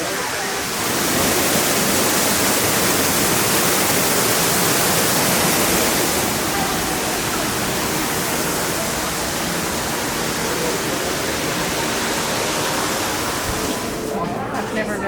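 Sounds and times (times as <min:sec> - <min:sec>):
falling water rushing: 0:00.0 - 0:14.9.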